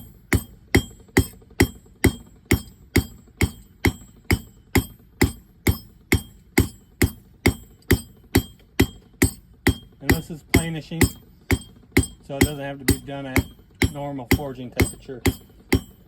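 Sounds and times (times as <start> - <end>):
hammer striking steel on anvil: 0.0 - 16.0.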